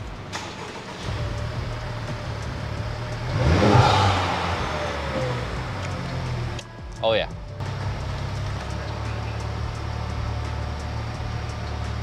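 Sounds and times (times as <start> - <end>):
car engine revving and idling: 0.0 - 12.0.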